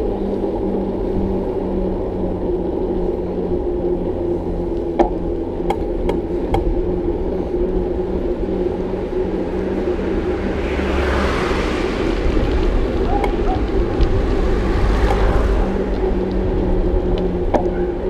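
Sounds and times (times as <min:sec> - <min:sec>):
bicycle rumbling on road: 0:00.0 - 0:18.0.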